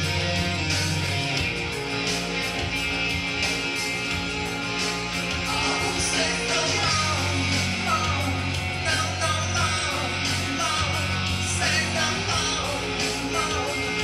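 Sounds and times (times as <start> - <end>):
bass line: 0.0 - 14.0
rock music with guitar: 0.0 - 14.0.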